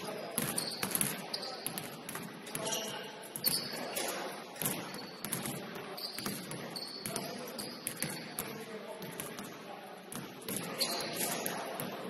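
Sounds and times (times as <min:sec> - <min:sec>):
basketballs bouncing on wooden floor: 0:00.0 - 0:03.8, 0:04.6 - 0:12.0
sneakers squeaking on court: 0:00.0 - 0:09.5, 0:10.1 - 0:12.0.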